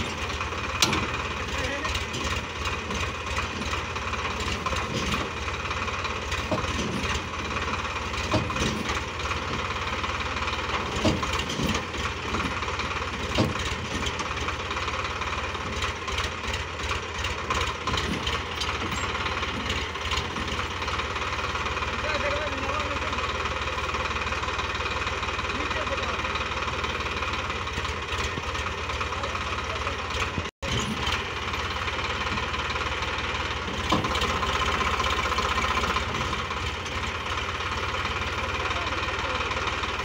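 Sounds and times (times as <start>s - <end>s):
tractor diesel engine idling: 0.0s - 40.0s.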